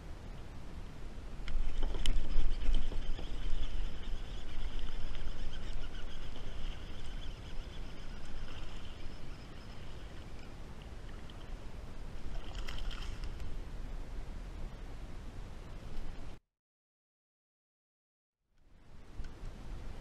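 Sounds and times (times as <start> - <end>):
low rumble of wind and water: 0.0 - 16.4, 18.5 - 20.0.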